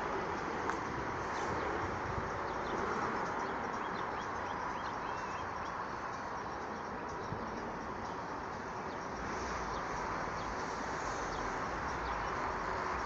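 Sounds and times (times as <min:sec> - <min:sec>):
steady rushing noise: 0:00.0 - 0:13.0
small birds chirping: 0:00.1 - 0:13.0.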